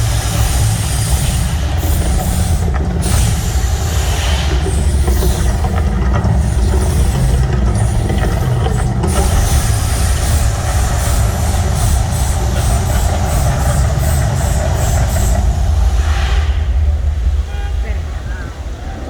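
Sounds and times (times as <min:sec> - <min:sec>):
deep eruption rumble: 0:00.0 - 0:19.0.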